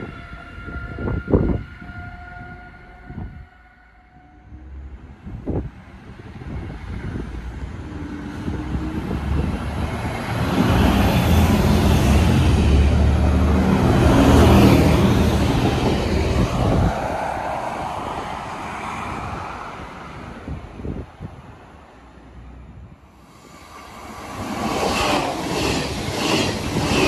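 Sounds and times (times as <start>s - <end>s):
diesel train approaching: 0.0s - 27.0s.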